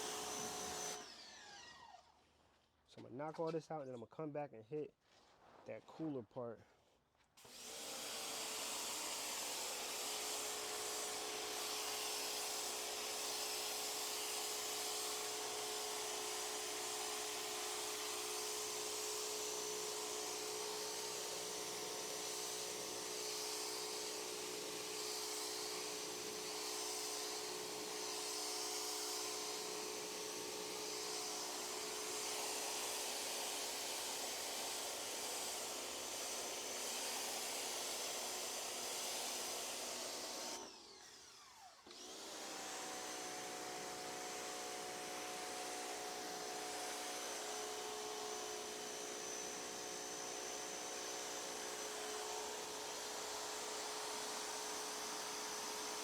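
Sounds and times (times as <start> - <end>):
water jet hissing on patio: 7.6 - 39.6, 42.5 - 56.0.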